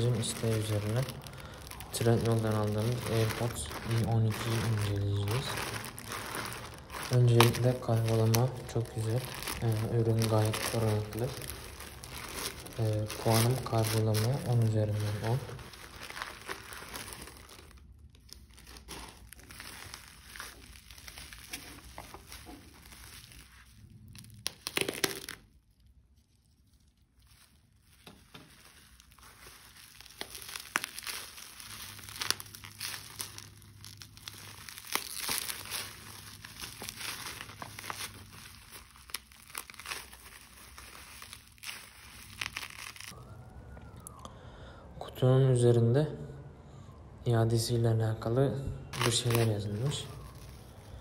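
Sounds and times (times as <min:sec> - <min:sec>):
bubble wrap crinkling: 0:00.0 - 0:44.2, 0:48.9 - 0:51.0.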